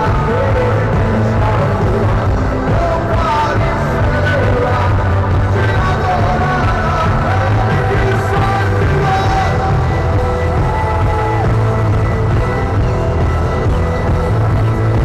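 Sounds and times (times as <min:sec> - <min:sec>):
live rock worship band playing: 0:00.0 - 0:15.0
singer holding long notes: 0:00.0 - 0:15.0.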